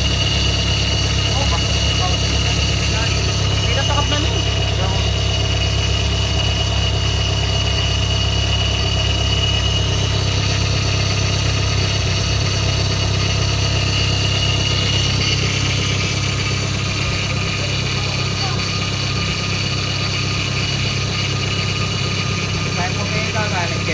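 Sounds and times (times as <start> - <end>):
car engine idling: 0.0 - 23.9
high-pitched whine: 0.0 - 23.9.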